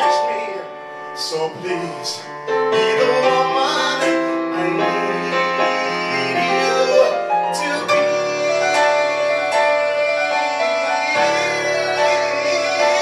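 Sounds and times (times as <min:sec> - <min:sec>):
piano ballad chords: 0:00.0 - 0:13.0.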